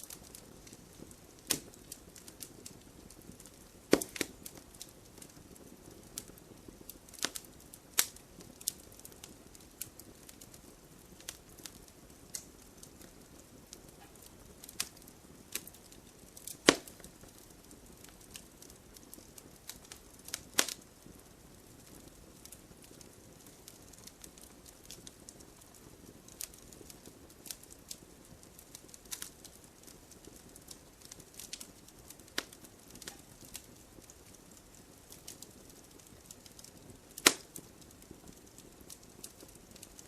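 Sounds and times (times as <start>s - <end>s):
burning firewood crackling: 0.0s - 40.0s.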